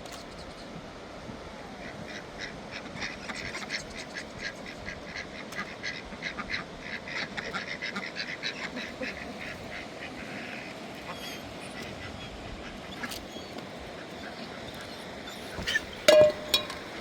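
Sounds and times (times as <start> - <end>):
fowl quacking: 1.9 - 16.7.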